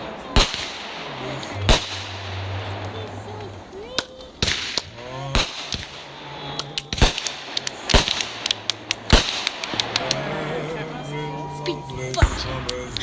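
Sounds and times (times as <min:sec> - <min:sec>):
fireworks banging and popping: 0:00.0 - 0:10.6, 0:12.1 - 0:13.0.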